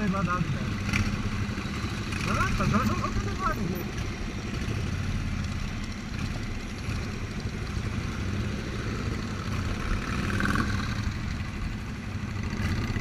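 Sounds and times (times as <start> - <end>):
motorcycle engine idling: 0.7 - 13.0.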